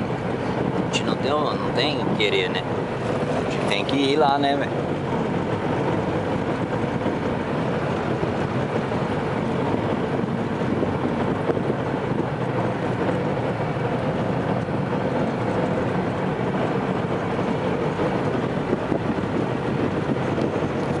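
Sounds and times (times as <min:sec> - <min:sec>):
boat engine drone: 0:00.0 - 0:21.0.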